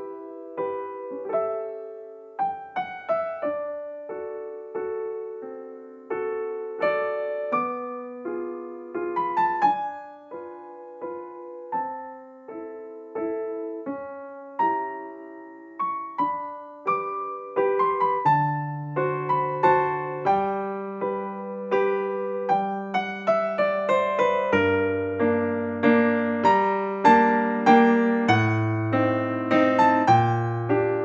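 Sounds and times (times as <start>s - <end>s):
calm piano music: 0.0s - 31.0s.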